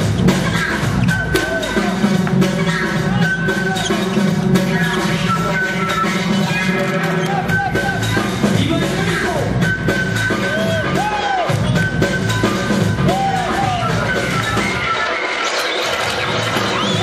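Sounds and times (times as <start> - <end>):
loud dance music: 0.0 - 17.0.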